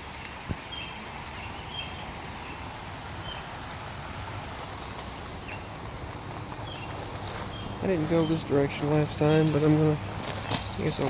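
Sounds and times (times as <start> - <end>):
outdoor background noise: 0.0 - 11.0
bird chirping: 0.2 - 3.5, 5.1 - 11.0.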